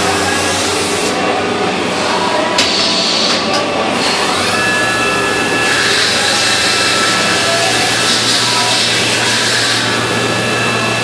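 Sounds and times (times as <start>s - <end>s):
machine whine: 0.0s - 11.0s.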